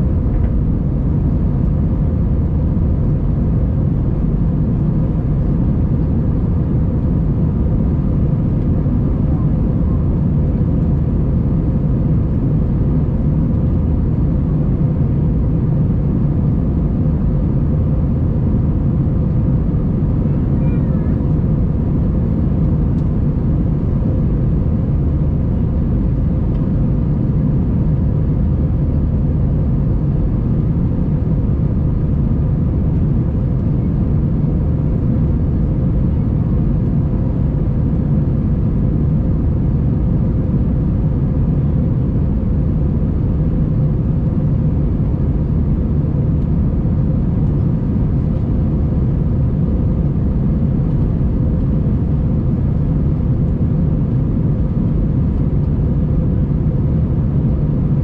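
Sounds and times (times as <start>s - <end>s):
aircraft cabin engine rumble: 0.0s - 58.0s.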